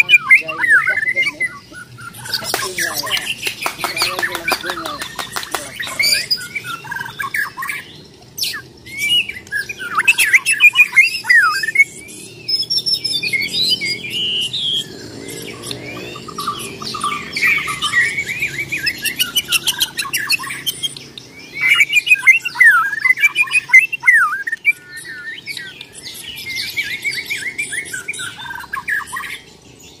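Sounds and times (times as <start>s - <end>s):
bird singing whistled phrases: 0.0s - 7.8s, 8.4s - 29.4s.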